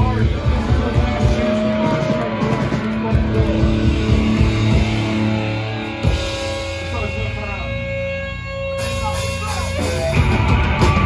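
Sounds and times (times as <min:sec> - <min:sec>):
distorted electric guitar: 0:00.0 - 0:11.0
punk band playing loud: 0:00.0 - 0:11.0.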